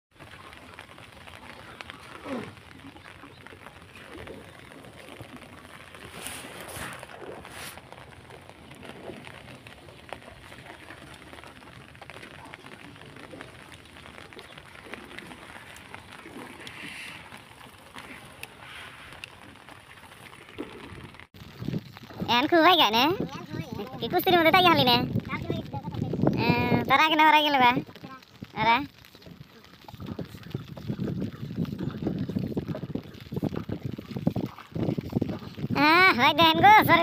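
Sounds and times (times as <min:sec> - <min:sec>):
leaves rustling against boat hull: 0:00.1 - 0:37.0.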